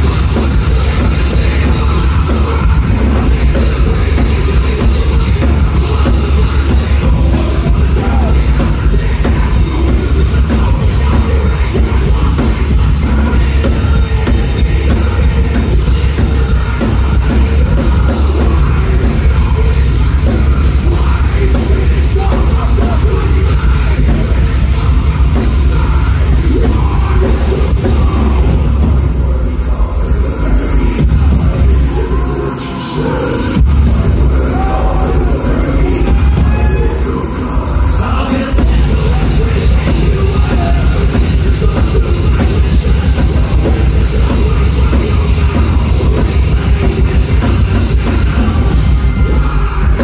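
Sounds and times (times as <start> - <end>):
drum kit: 0.0 - 50.0
heavy bass guitar: 0.0 - 50.0
person singing: 0.0 - 50.0.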